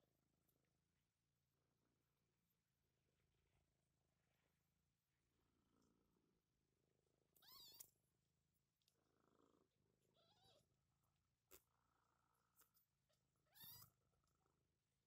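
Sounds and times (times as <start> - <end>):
low steady purr: 0.0 - 15.0.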